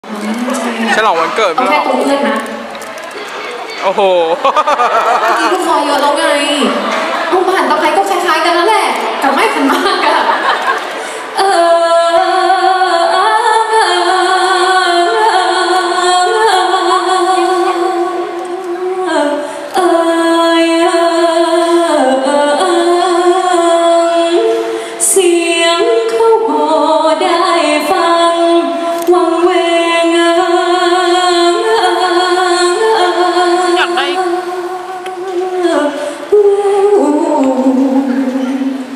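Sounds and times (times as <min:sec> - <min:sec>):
woman singing into a microphone: 0:01.6 - 0:02.7, 0:05.4 - 0:38.9.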